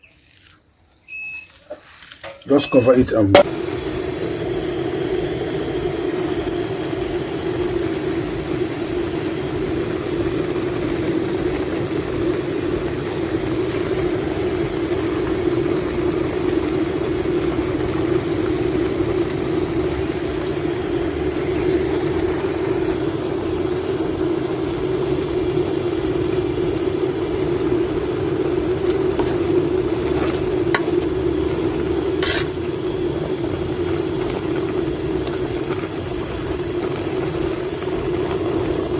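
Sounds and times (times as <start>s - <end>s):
sizzling hiss: 2.2s - 38.9s
steady hum: 2.5s - 38.9s.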